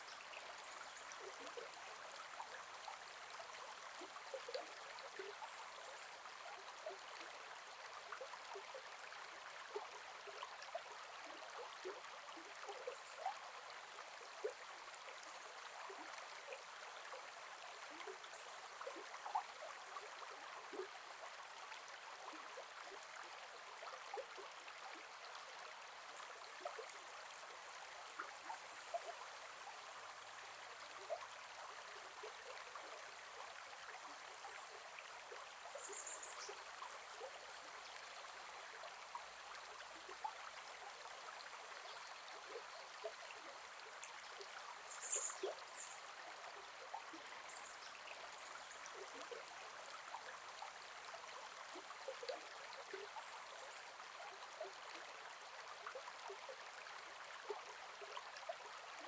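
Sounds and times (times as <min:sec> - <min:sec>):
river water flowing and gurgling: 0:00.0 - 0:59.0.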